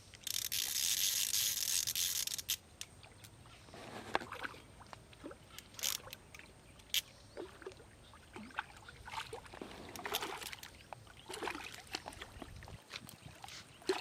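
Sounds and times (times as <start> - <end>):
water splashing and sloshing: 2.8 - 14.0.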